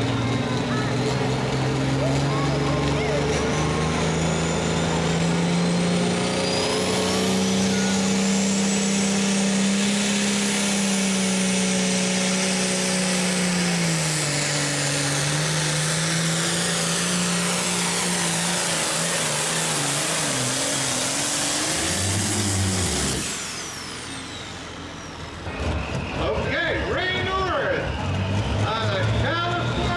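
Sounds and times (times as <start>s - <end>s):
diesel tractor engine under load: 0.0s - 29.9s.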